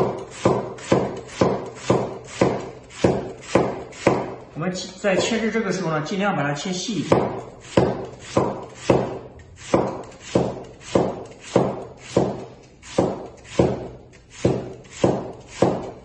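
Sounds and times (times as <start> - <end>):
knife chopping cabbage: 0.0 - 4.5, 7.0 - 16.0.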